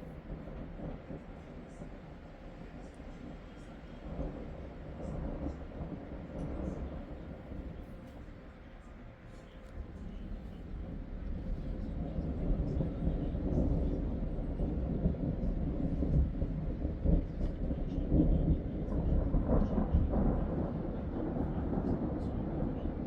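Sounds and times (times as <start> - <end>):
low roll of thunder: 0.0 - 23.0.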